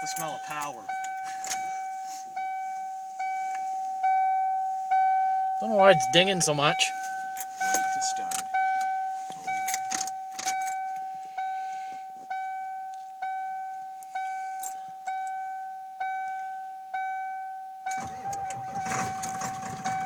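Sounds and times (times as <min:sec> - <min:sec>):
dashboard warning chime dinging: 0:00.0 - 0:20.0.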